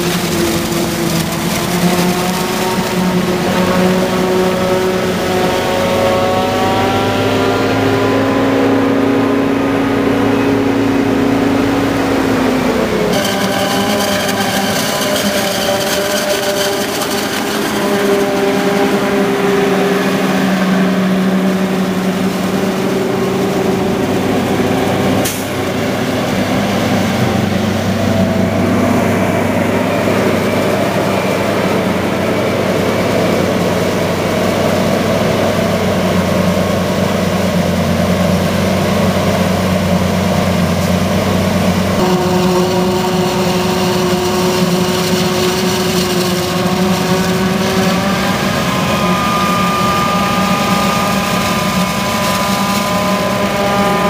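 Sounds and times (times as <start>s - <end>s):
heavy harvester engine drone: 0.0s - 54.0s
truck engine: 0.0s - 54.0s.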